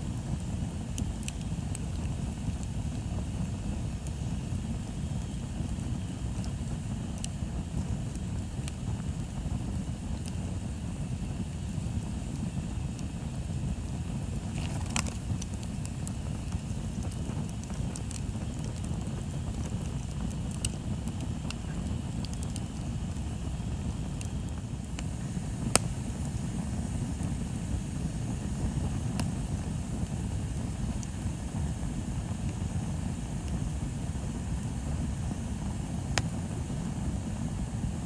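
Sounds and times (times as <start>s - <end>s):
bonfire crackling and popping: 0.0s - 38.0s
bonfire low rumble: 0.0s - 38.0s.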